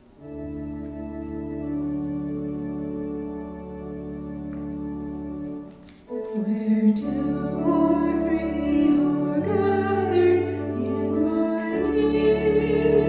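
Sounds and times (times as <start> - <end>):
church organ chords: 0.0 - 13.0.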